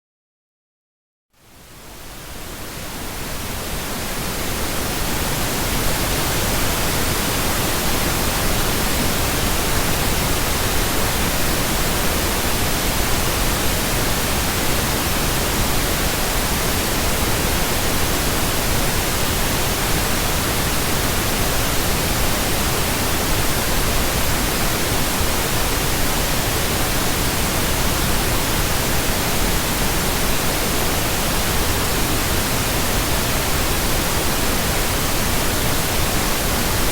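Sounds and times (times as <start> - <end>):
pink noise hiss: 1.4 - 36.9.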